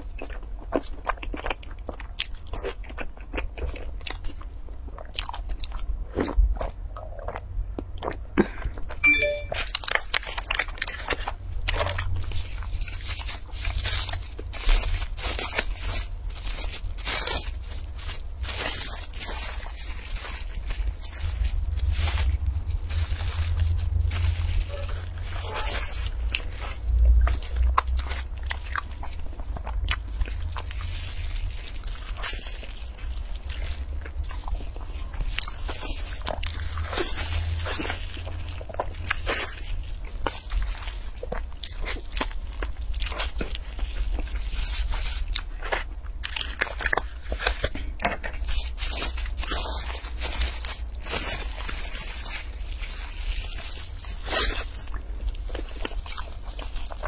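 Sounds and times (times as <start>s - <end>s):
biting and chewing bun: 0.0s - 57.0s
plastic wrap crinkling: 9.0s - 57.0s.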